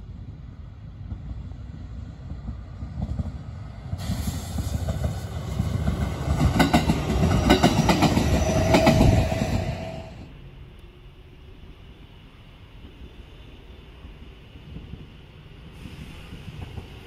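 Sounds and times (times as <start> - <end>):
electric train passing: 0.0 - 17.0
steady train whine: 0.0 - 17.0.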